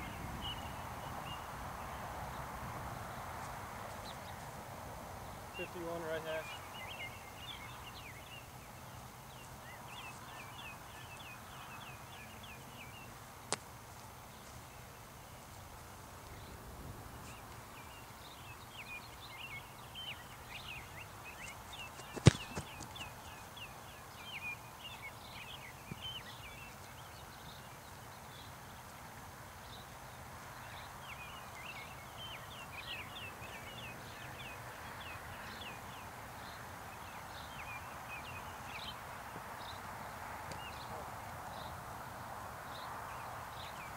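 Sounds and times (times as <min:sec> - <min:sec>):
small birds chirping: 0:05.2 - 0:42.1.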